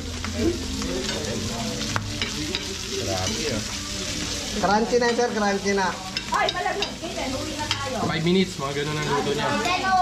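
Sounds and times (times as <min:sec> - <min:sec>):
meat sizzling in a skillet: 0:00.0 - 0:10.0.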